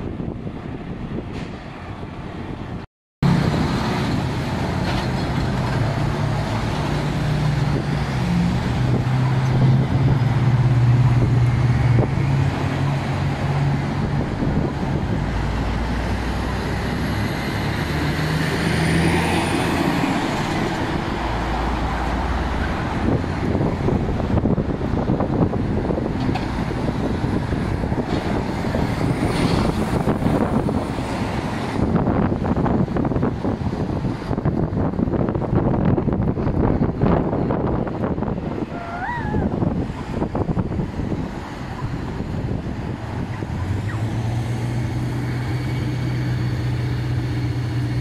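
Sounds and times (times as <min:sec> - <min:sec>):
diesel engine drone: 0:00.0 - 0:48.0
road traffic: 0:00.0 - 0:48.0
truck passing rumble: 0:00.0 - 0:48.0.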